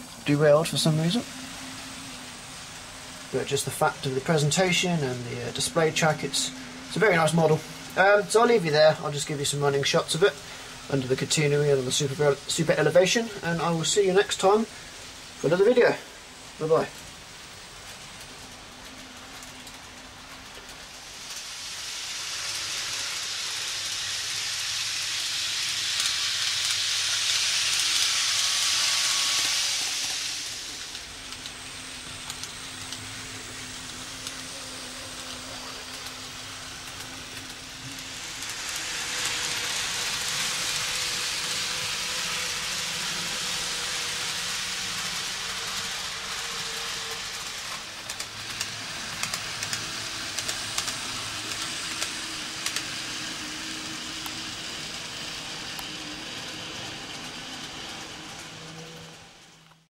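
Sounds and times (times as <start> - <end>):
model train wheels rattling: 0.0 - 59.8.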